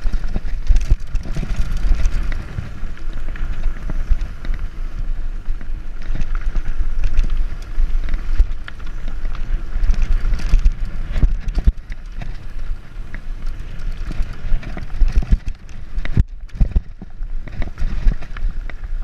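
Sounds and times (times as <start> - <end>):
bike rattling over bumps: 0.0 - 19.0
bike tyres on gravel: 0.0 - 19.0
wind rumble on microphone: 0.0 - 19.0.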